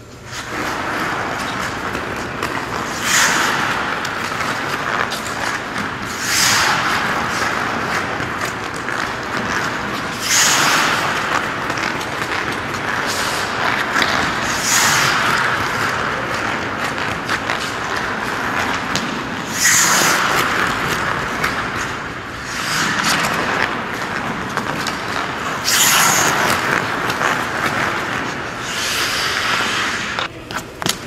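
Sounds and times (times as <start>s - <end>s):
skate blades scraping on turns: 0.0s - 31.0s
skate blades carving ice: 0.2s - 31.0s.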